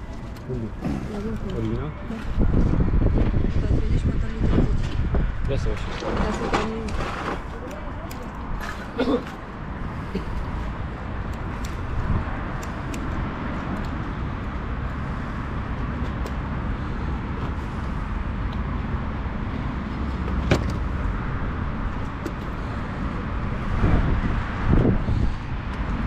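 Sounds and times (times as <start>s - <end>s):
wind buffeting microphone: 0.0s - 8.6s, 9.4s - 26.0s.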